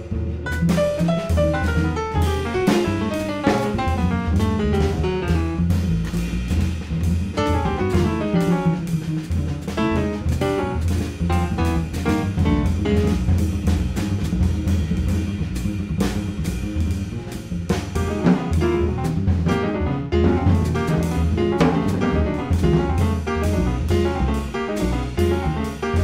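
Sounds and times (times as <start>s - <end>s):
double bass: 0.0s - 26.0s
drum kit with cymbals: 0.0s - 26.0s
grand piano: 0.0s - 26.0s.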